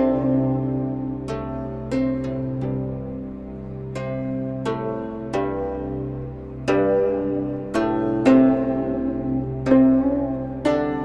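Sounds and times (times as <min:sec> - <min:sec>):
soft plucked music: 0:00.0 - 0:11.0.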